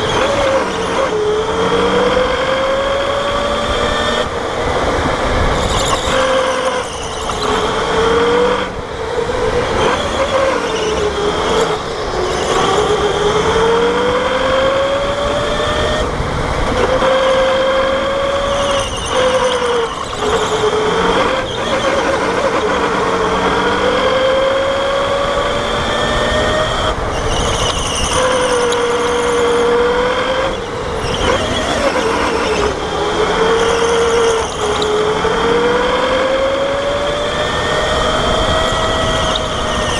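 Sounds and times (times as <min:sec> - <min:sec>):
electric go-kart motor whine: 0:00.0 - 0:39.9
tyre and chassis noise: 0:00.0 - 0:39.9.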